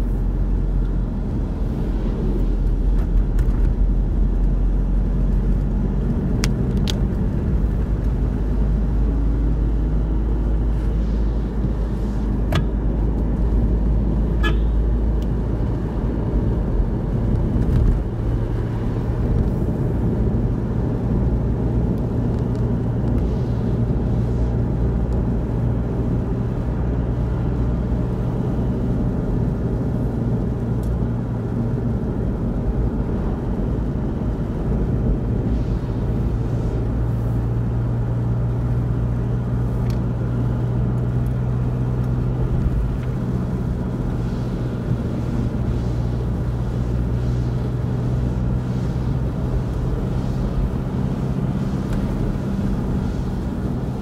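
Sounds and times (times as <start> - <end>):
constant hum: 0.0 - 54.0
engine and tyre rumble: 0.0 - 54.0.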